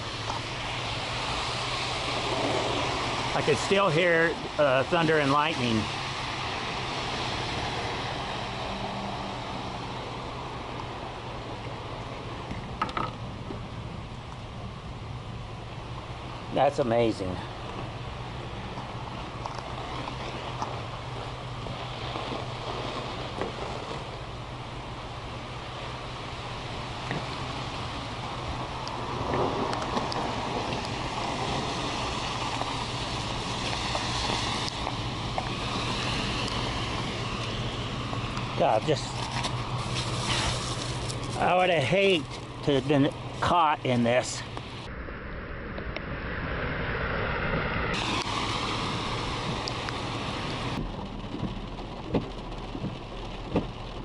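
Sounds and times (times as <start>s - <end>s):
tyre hiss on wet road: 0.0s - 12.5s, 15.3s - 44.9s, 48.0s - 54.0s
low engine hum: 0.0s - 54.0s.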